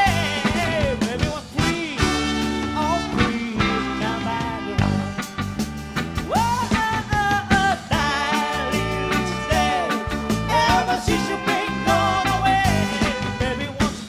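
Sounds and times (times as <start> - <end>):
live soul band playing: 0.0 - 14.0.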